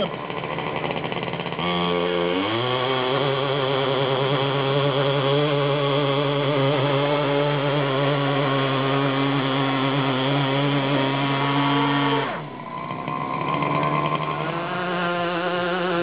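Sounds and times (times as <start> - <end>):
small engine running hard: 0.0 - 16.0.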